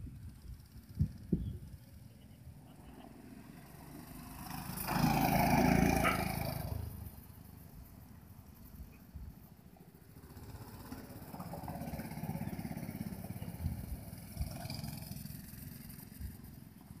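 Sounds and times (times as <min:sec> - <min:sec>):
go-kart engine passing: 0:00.0 - 0:17.0.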